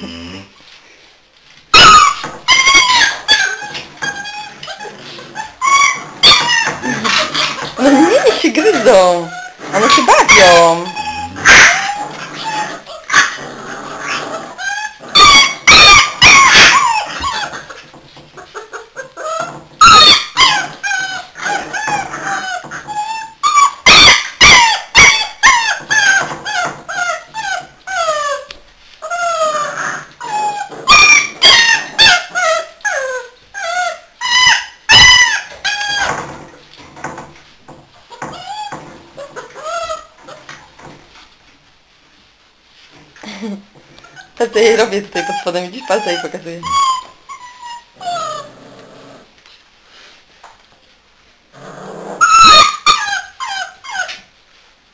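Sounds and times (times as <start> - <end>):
puppies yipping and squealing: 1.7 - 37.3, 38.0 - 41.1, 44.0 - 48.8, 52.2 - 54.4.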